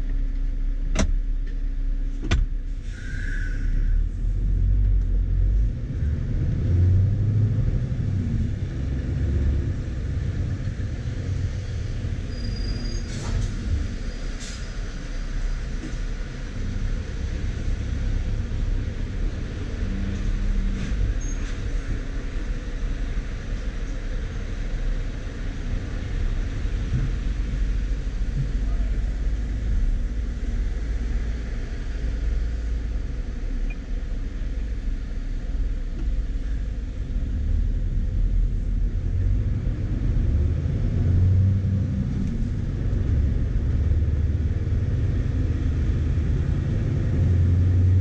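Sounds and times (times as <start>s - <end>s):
diesel truck engine rumbling: 0.0s - 48.0s.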